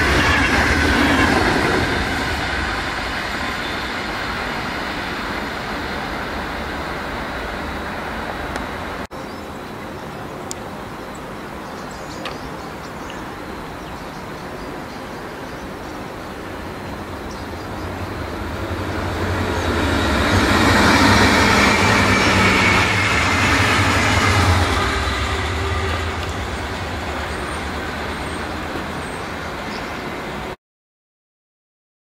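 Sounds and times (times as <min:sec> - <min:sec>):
train wheels rolling on rails: 0:00.0 - 0:09.1, 0:12.1 - 0:30.6.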